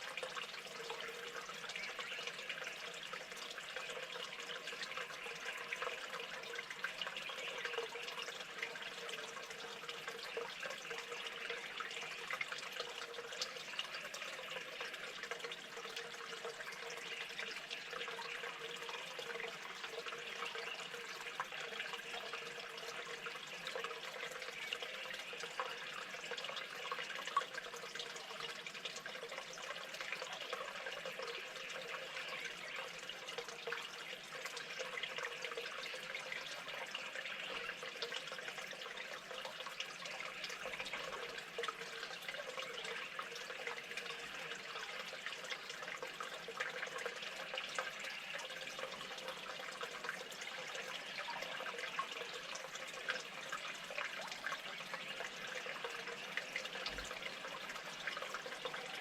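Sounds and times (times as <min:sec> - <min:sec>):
small drips and splashes: 0:00.0 - 0:59.0
water trickling: 0:00.0 - 0:59.0.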